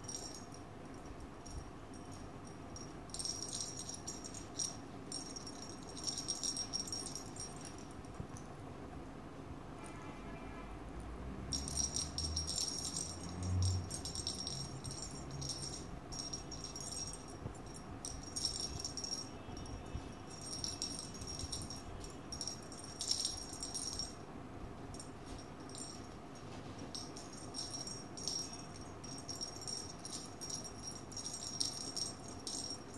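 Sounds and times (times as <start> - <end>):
small bell jingling: 0.0 - 8.5, 11.5 - 24.3, 24.9 - 32.9.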